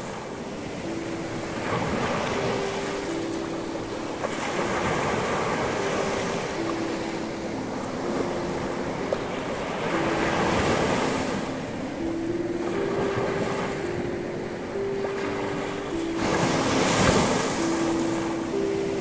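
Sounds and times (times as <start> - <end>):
soft melody of held notes: 0.0 - 19.0
surf washing onto beach: 0.0 - 19.0.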